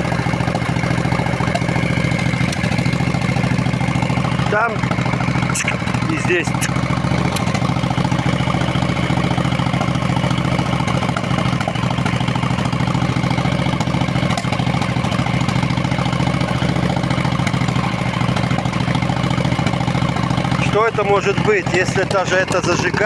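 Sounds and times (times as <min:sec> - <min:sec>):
engine misfire: 0:00.0 - 0:23.0
motorcycle engine idling: 0:00.0 - 0:23.0.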